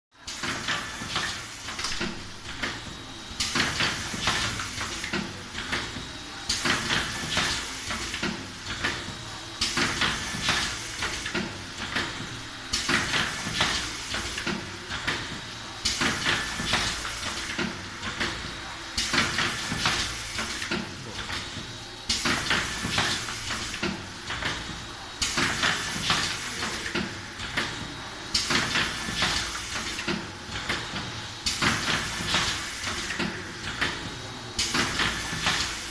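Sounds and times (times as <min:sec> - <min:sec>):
machine clicks and clacks: 0:00.3 - 0:35.9.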